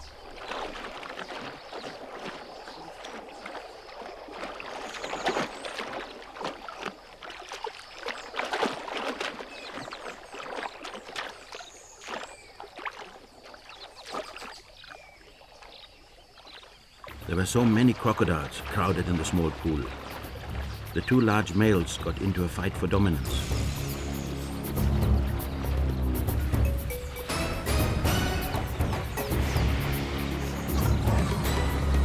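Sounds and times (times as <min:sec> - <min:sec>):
water splashing and churning: 0:00.0 - 0:32.0.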